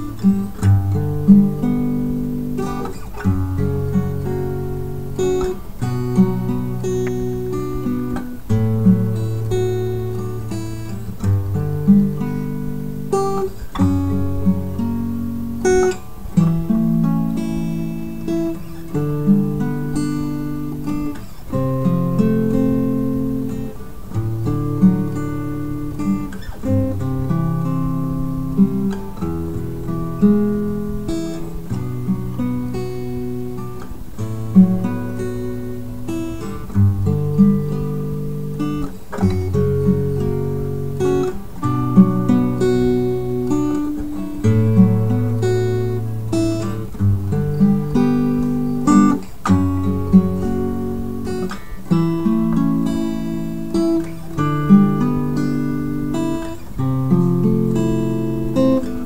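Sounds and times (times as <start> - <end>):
acoustic guitar strumming and plucking: 0.0 - 59.0.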